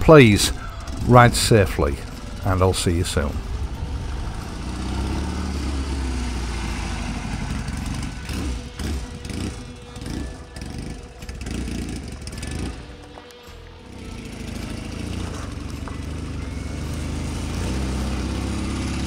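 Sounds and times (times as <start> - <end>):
motorcycle engine passing by: 0.0 - 19.0.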